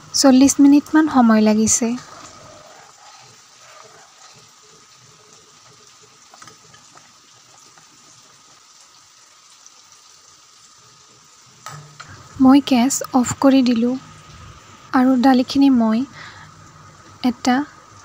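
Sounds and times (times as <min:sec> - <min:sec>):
pot simmering faintly: 0:00.0 - 0:18.0.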